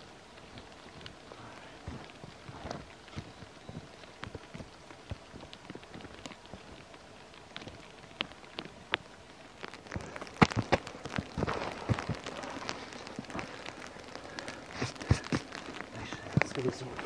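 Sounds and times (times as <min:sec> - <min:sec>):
snow pattering: 0:00.0 - 0:17.0.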